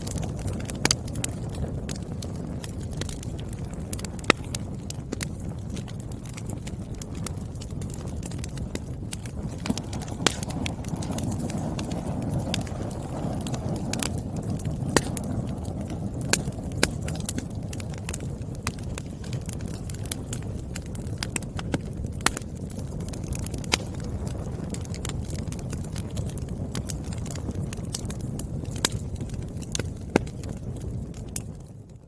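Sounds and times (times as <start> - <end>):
firewood crackling and popping: 0.0 - 32.0
low rush of fire: 0.0 - 32.0.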